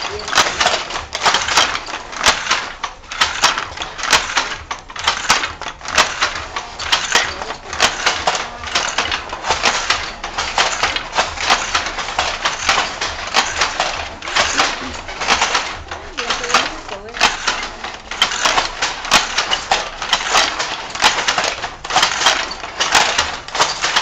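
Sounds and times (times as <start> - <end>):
wooden loom clattering: 0.0 - 24.0.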